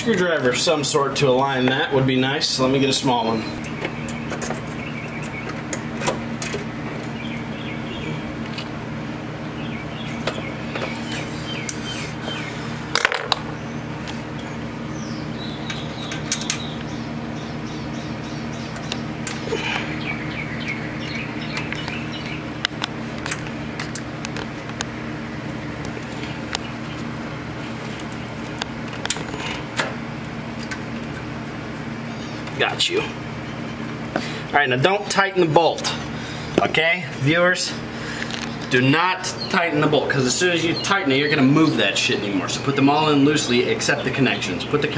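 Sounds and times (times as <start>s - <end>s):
birds chirping: 0.0s - 44.9s
steady mechanical hum: 0.0s - 44.9s.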